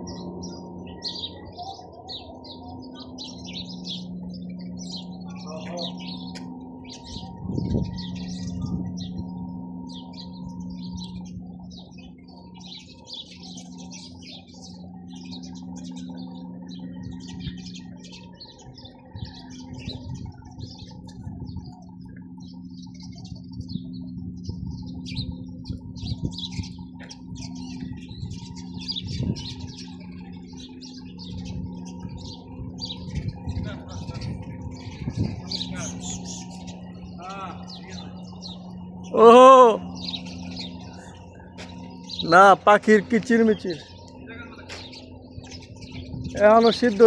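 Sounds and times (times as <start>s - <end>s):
low mechanical hum: 0.0s - 47.0s
sparrows chirping: 0.0s - 47.0s.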